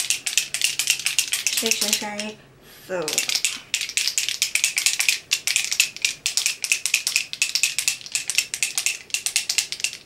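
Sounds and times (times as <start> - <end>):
spray bottle shaken rattling: 0.0 - 2.3, 3.1 - 10.0.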